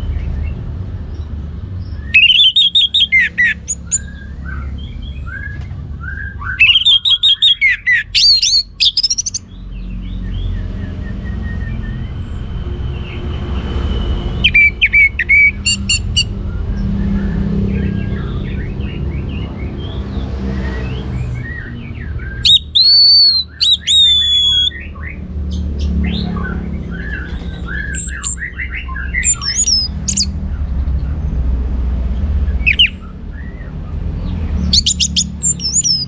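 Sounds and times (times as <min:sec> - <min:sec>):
faint bird chirping: 0:00.0 - 0:20.0, 0:20.6 - 0:36.0
thrush singing whistled notes: 0:01.8 - 0:31.2, 0:32.5 - 0:36.0.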